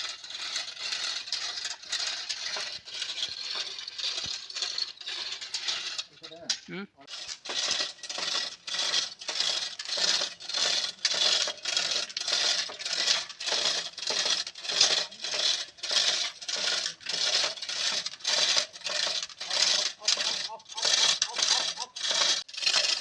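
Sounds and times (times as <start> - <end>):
metal clinking and rattling: 0.0 - 23.0.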